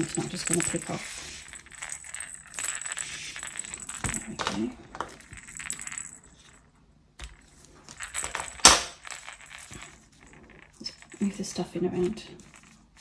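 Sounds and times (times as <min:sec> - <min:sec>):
toy rattle rattling: 0:00.0 - 0:06.6, 0:07.2 - 0:13.0.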